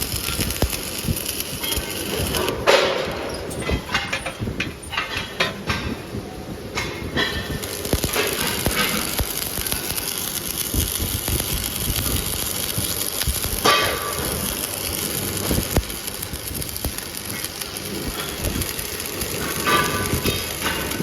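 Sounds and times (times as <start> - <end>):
shop machinery running: 0.0 - 21.0.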